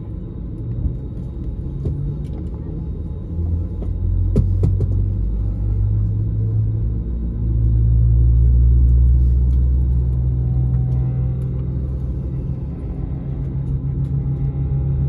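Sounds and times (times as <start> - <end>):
aircraft cabin rumble: 0.0 - 15.0.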